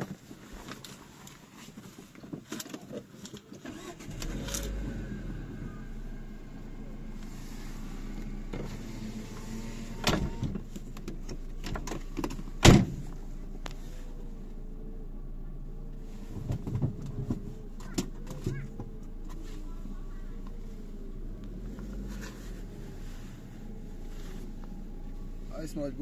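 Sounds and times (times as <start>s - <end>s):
car engine starting and idling: 3.2s - 26.0s.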